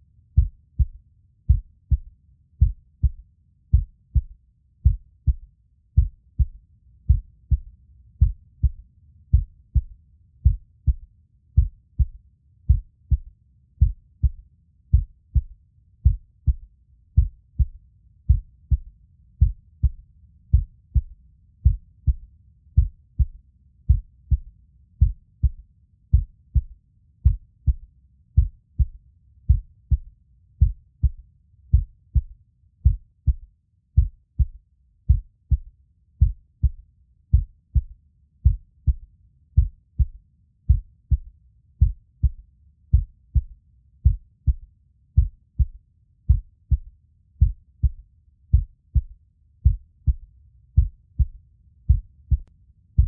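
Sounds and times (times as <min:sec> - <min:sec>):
heartbeat thumps: 0:00.4 - 0:53.0.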